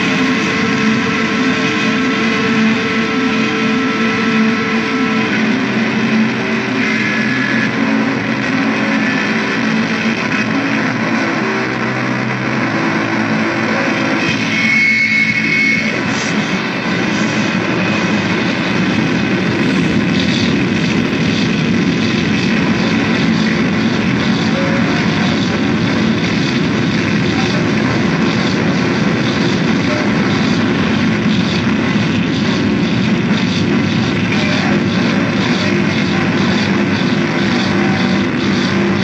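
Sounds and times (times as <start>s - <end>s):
droning noise music: 0.0s - 39.0s
held low tones: 0.0s - 39.0s.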